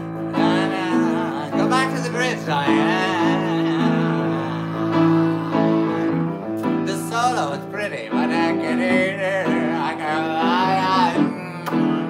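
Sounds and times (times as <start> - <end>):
acoustic guitar: 0.0 - 12.0
upright piano: 0.0 - 12.0
wordless voice singing: 0.0 - 12.0.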